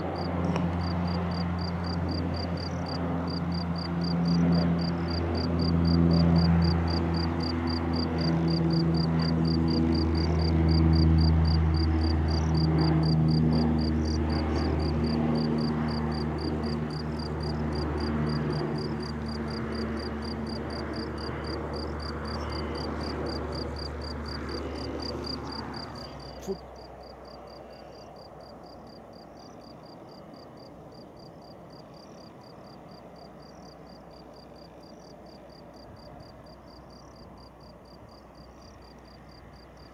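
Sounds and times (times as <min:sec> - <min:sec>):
crickets chirping: 0:00.0 - 0:39.9
turboprop airplane propeller drone: 0:00.0 - 0:39.9.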